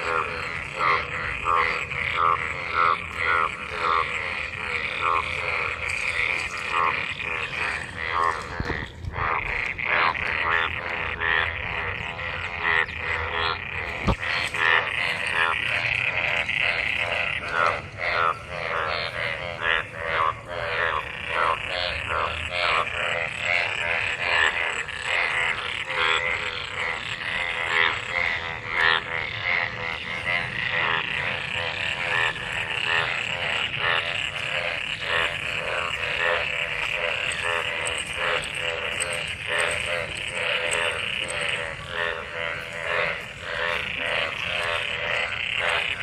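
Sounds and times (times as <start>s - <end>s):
frogs croaking in chorus: 0.0s - 46.0s.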